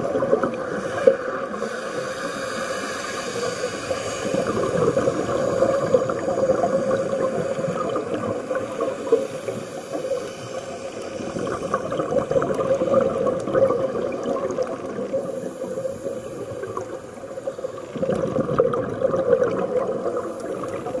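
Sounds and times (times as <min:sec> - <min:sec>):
underwater breathing and bubbling: 0:00.0 - 0:21.0.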